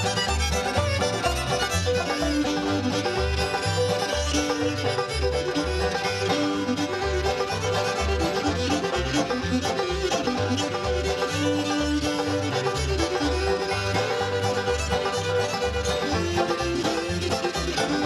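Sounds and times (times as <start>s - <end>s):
banjo: 0.0s - 18.0s
bass notes: 0.0s - 18.0s
fiddle: 0.0s - 18.0s
guitar: 0.0s - 18.0s.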